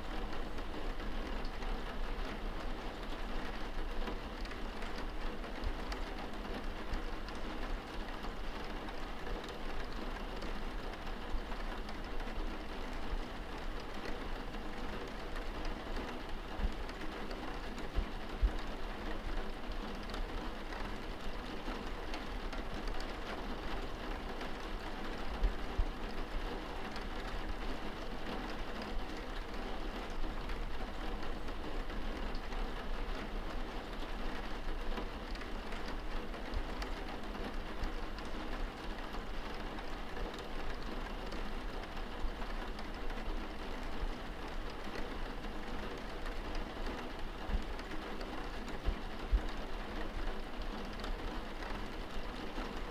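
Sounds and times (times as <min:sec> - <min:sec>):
rain pattering on window: 0:00.0 - 0:52.9.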